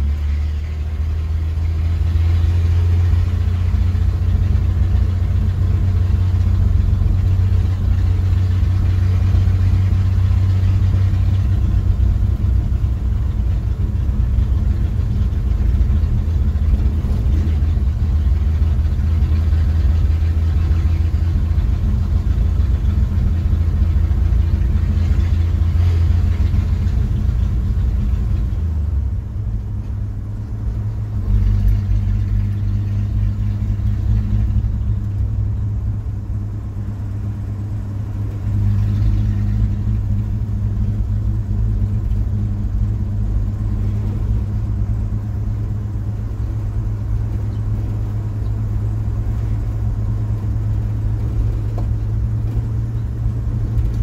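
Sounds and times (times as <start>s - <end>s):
pickup engine running: 0.0s - 54.0s
road noise: 0.0s - 54.0s.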